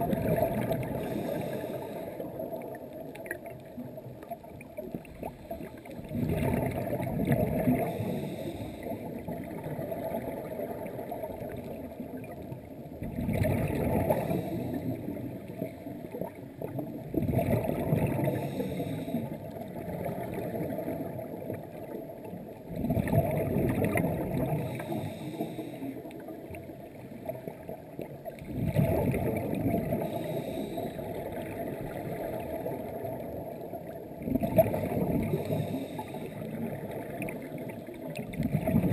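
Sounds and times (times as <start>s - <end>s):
underwater exhaled bubbles: 0.0s - 38.9s.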